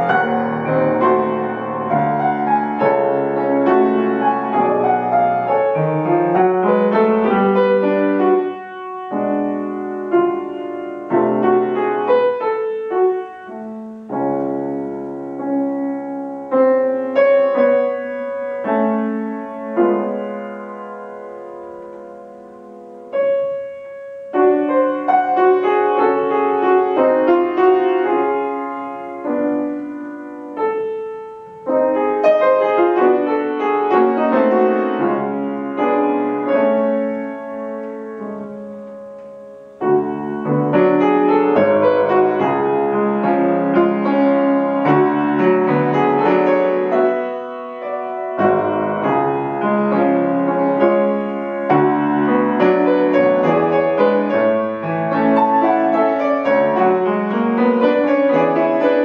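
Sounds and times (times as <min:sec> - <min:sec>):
solo grand piano piece: 0:00.0 - 0:59.0.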